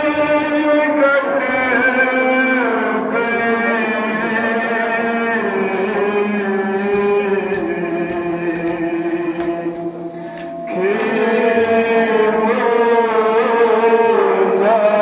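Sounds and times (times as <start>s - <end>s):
man chanting a lament: 0.0s - 15.0s.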